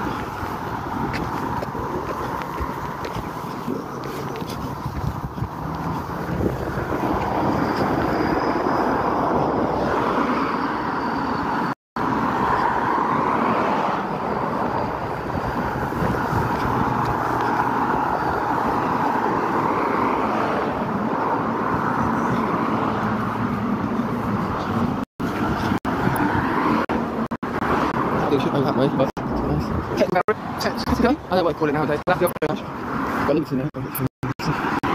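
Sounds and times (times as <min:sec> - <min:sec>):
cars passing on street: 0:00.0 - 0:34.9.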